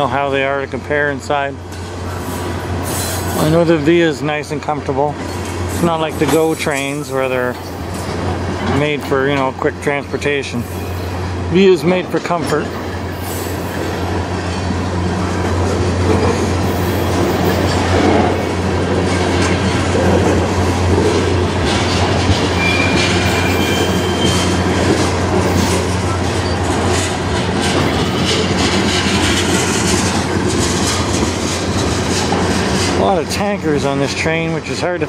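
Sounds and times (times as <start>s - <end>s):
clickety-clack over rail joints: 0.0s - 10.9s, 11.7s - 35.0s
steel wheels rumbling on rail: 0.0s - 35.0s.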